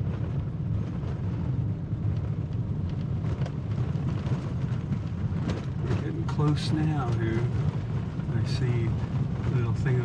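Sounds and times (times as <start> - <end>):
vehicle engine and tyres rumbling: 0.0 - 10.0.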